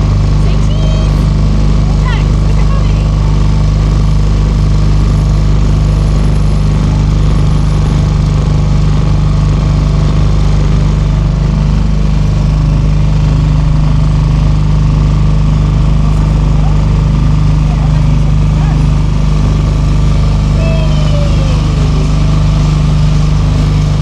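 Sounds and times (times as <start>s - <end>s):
outboard motor chugging: 0.0s - 24.0s.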